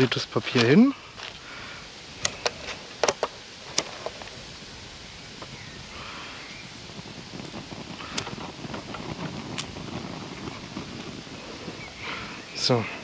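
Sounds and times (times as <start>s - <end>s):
faint outdoor noise: 0.0s - 13.0s.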